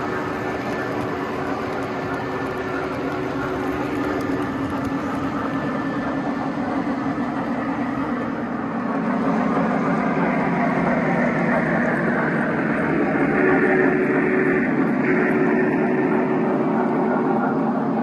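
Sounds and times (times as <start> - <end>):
model train wheels rumbling on track: 0.0 - 18.0.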